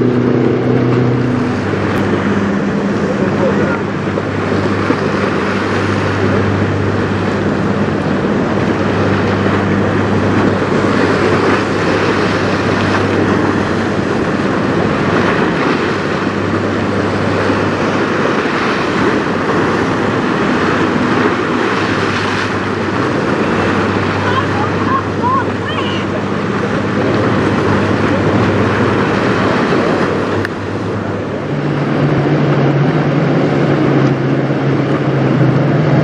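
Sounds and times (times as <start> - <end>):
choppy river water: 0.0 - 36.0
low mechanical hum: 0.0 - 36.0
wind buffeting microphone: 0.0 - 36.0.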